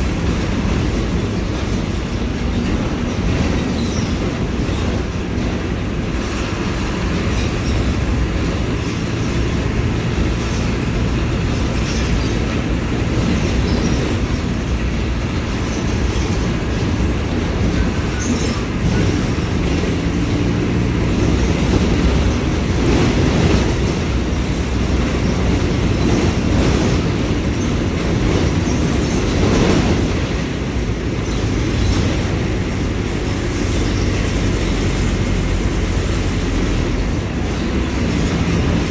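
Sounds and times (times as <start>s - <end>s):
bus engine rumbling: 0.0s - 38.9s.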